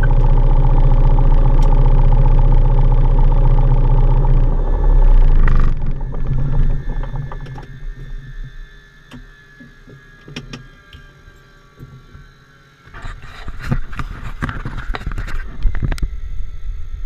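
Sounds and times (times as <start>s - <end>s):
faint whine falling in pitch: 0.0s - 17.0s.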